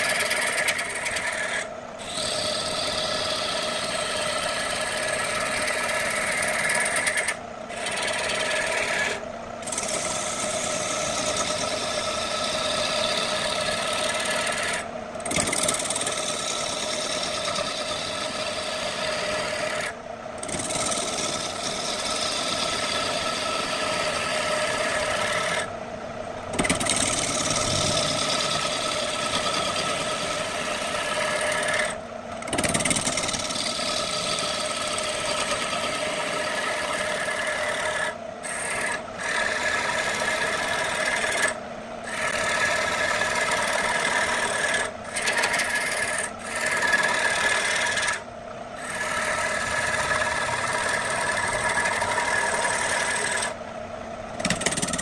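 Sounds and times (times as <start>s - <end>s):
wood lathe cutting hiss: 0.0s - 25.7s, 26.5s - 32.0s, 33.0s - 48.2s, 48.8s - 53.6s
lathe motor hum: 0.0s - 55.0s.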